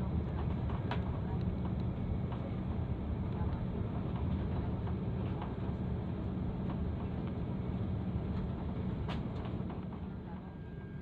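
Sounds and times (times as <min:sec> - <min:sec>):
jet engines and wheels rumbling: 0:00.0 - 0:11.0.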